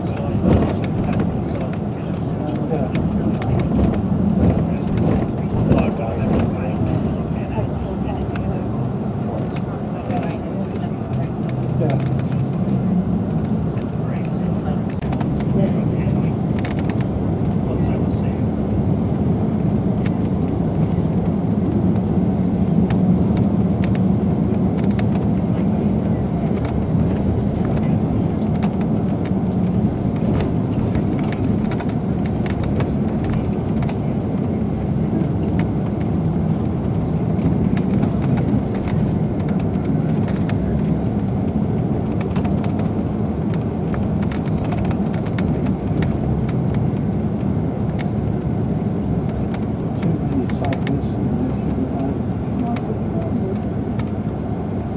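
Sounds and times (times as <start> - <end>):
coach engine and road drone: 0.0 - 54.9.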